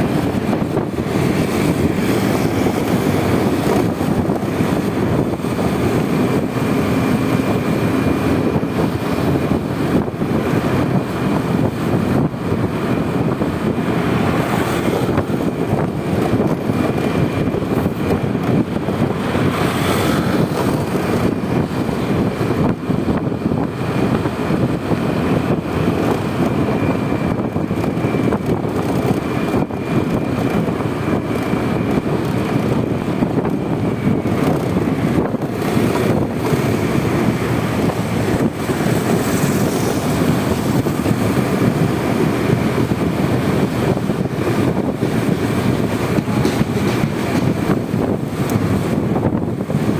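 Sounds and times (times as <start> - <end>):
scooter engine running: 0.0 - 49.9
wind on microphone: 0.0 - 49.9.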